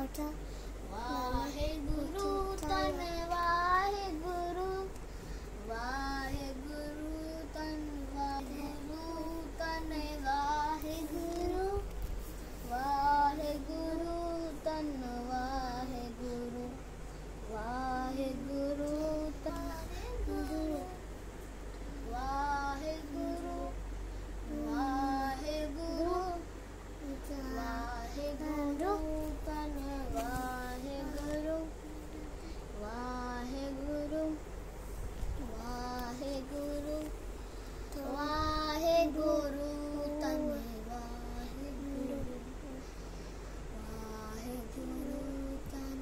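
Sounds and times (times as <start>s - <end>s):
child singing a hymn: 0.0s - 4.9s, 5.6s - 11.9s, 12.6s - 16.8s, 17.5s - 21.1s, 22.0s - 32.2s, 32.8s - 34.4s, 35.4s - 37.1s, 37.9s - 42.9s, 43.7s - 46.0s.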